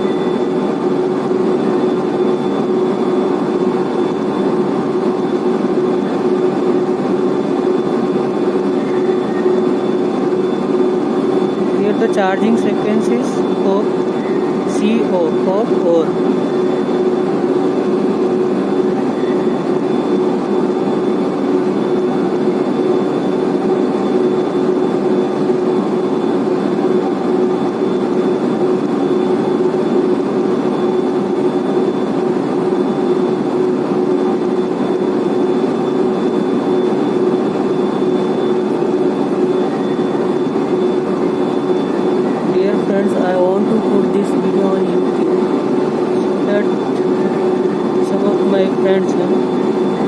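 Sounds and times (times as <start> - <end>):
faint high whine: 0.0 - 50.0.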